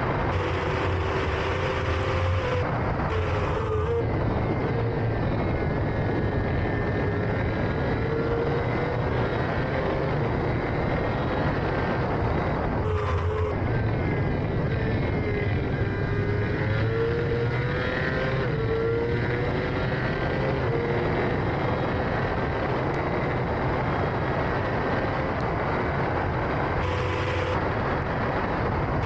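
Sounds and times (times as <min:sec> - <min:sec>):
racing engine at high revs: 0:00.0 - 0:29.0.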